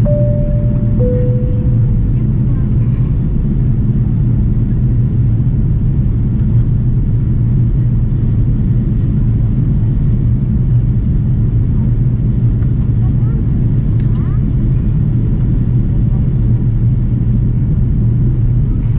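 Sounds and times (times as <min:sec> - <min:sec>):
airliner cabin engine roar: 0:00.0 - 0:18.9.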